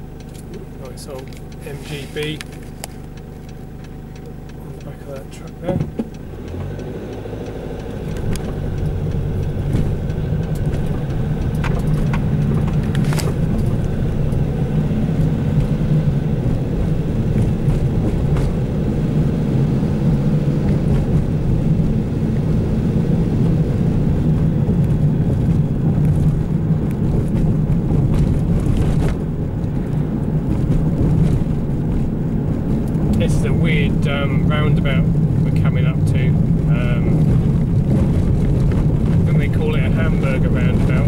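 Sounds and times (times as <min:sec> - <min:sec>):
vehicle cabin engine and road hum: 0:00.0 - 0:41.0.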